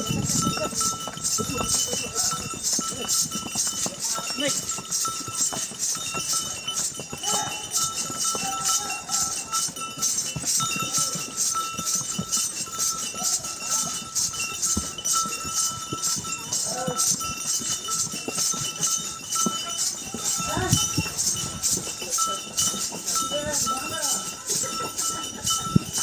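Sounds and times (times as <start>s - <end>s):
harness bells jingling: 0.0s - 26.0s
horse hooves clip-clopping: 0.0s - 26.0s.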